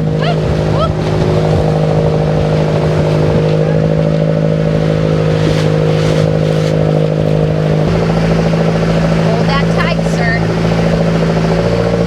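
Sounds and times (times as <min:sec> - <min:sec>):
boat engine droning: 0:00.0 - 0:12.0
water splashing against hull: 0:00.0 - 0:12.0.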